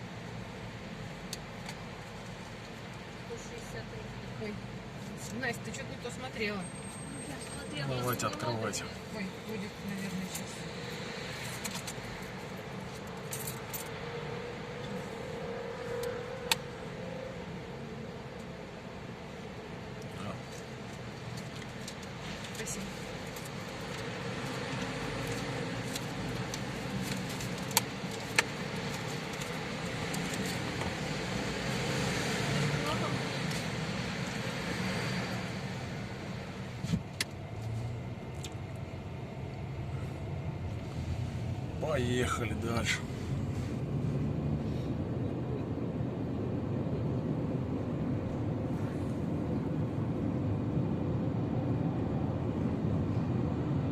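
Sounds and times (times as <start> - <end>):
car cabin hum and road noise: 0.0 - 53.9.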